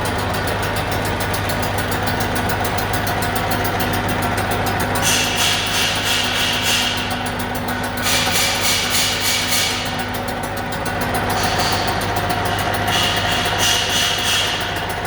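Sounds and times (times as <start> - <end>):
lathe humming: 0.0 - 15.0.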